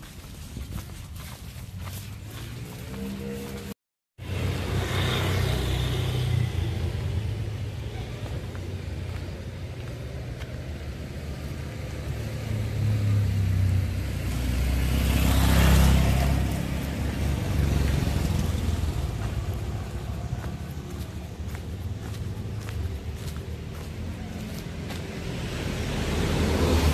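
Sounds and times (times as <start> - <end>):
steady traffic: 0.0 - 26.9
vehicle passing by: 1.2 - 26.9.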